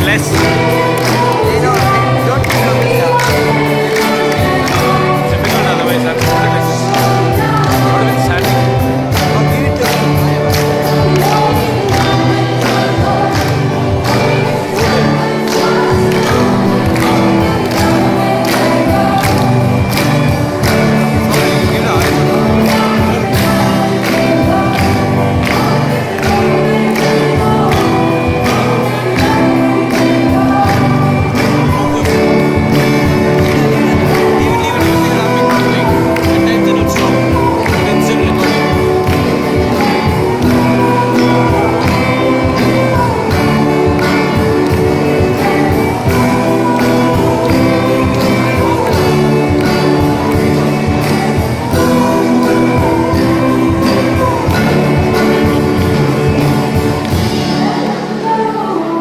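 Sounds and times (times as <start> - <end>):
bass guitar: 0.0 - 57.9
drum kit beat: 0.0 - 58.0
electric guitars: 0.0 - 59.0
person singing: 0.0 - 59.0.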